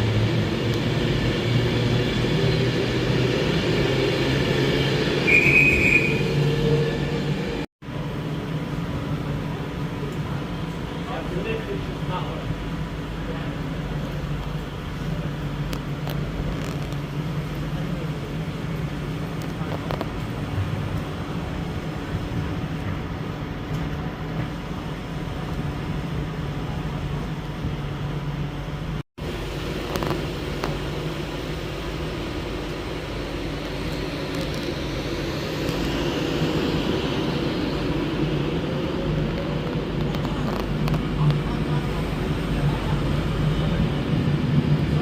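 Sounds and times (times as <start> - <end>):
train humming and rumbling: 0.0 - 45.0.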